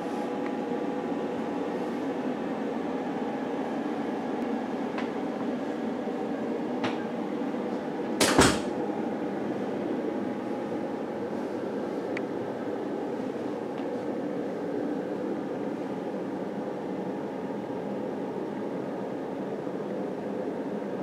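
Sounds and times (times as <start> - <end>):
room hum: 0.0 - 21.0.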